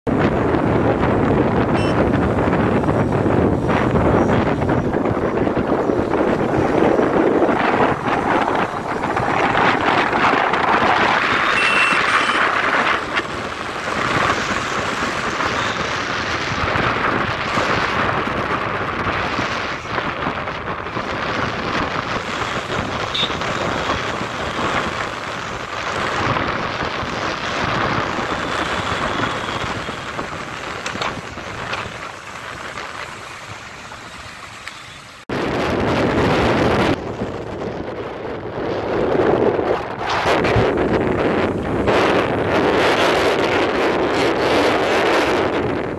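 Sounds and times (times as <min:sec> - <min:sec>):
wind rushing over microphone: 0:00.0 - 0:34.5, 0:35.2 - 0:45.9
road noise: 0:00.0 - 0:45.9.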